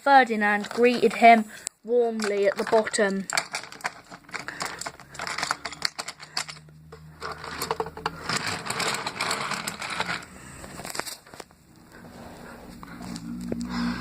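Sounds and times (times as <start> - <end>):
toy trains clicking and rattling: 0.1 - 11.5.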